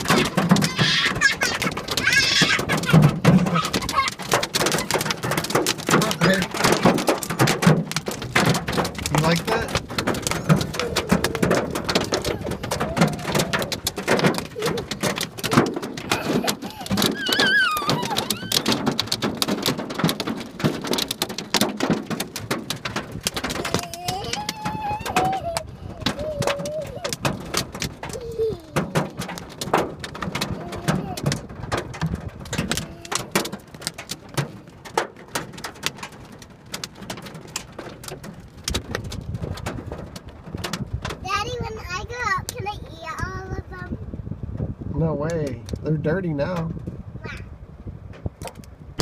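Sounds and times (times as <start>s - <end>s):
hail clattering on car roof: 0.0s - 43.9s, 44.5s - 47.4s, 48.0s - 49.0s.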